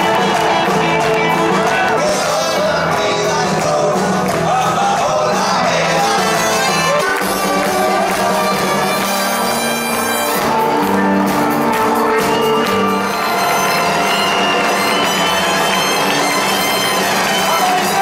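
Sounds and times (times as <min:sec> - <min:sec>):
drums: 0:00.0 - 0:18.0
electric guitars: 0:00.0 - 0:18.0
rock band playing live: 0:00.0 - 0:18.0.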